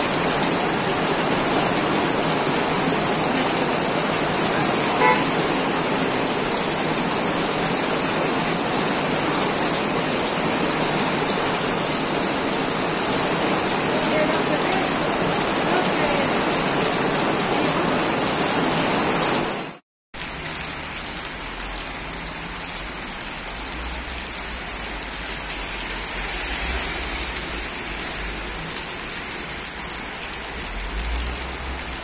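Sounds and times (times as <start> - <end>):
heavy rain on pavement: 0.0 - 32.0.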